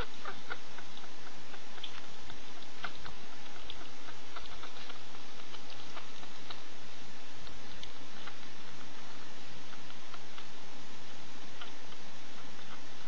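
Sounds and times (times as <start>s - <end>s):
dog licking pups: 0.0s - 13.0s.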